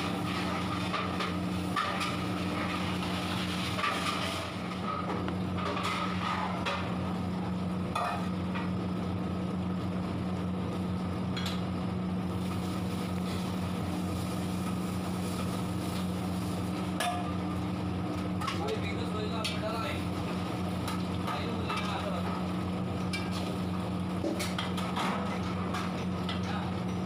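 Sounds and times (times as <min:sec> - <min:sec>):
steady mechanical drone: 0:00.0 - 0:27.0.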